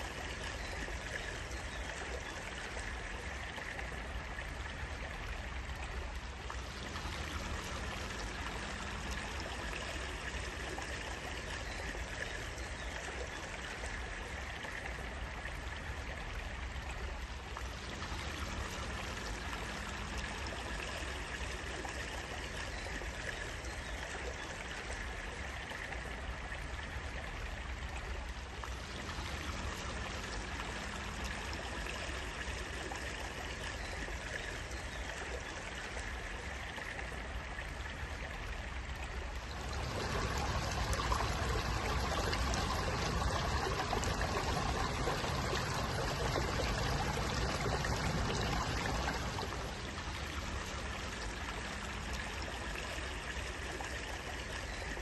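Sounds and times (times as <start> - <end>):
water trickling in a stream: 0.0 - 55.0.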